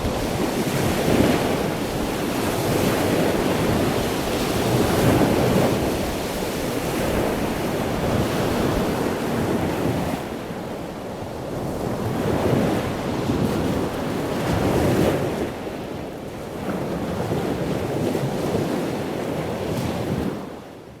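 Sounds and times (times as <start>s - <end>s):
ocean waves breaking: 0.0s - 20.6s
wind on microphone: 0.0s - 21.0s.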